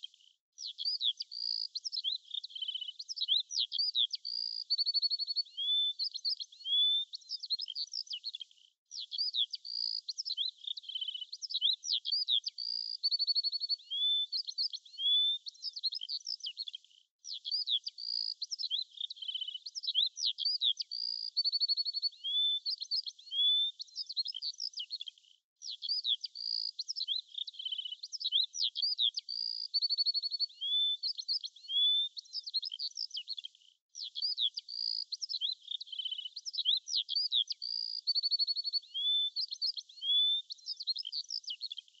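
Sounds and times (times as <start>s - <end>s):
songbirds chirping and trilling: 0.0s - 42.0s.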